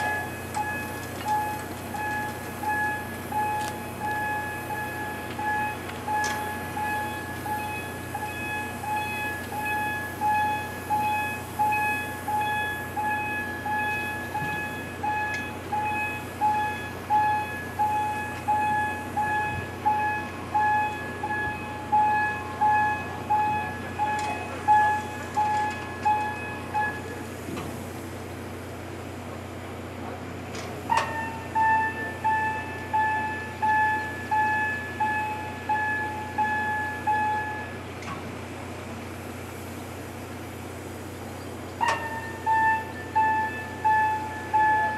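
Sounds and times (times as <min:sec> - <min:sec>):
electronic warning bell beeping: 0:00.0 - 0:27.2, 0:31.0 - 0:37.8, 0:41.9 - 0:44.9.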